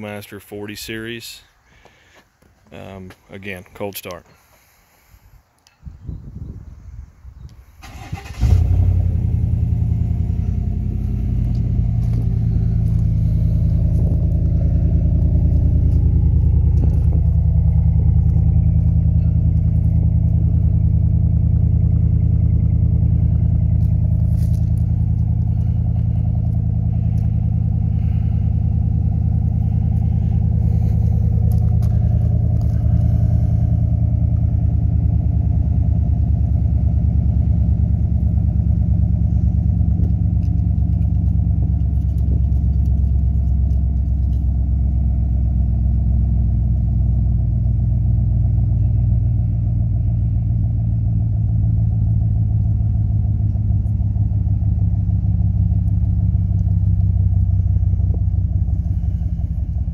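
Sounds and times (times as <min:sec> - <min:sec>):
truck engine idling: 0:07.6 - 0:59.9.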